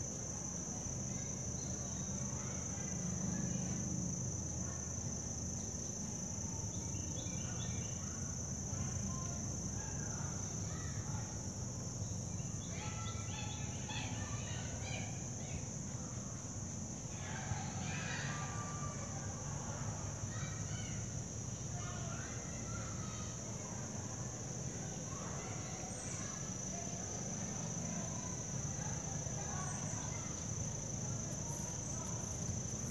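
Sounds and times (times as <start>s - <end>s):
high-pitched insect trill: 0.0s - 32.9s.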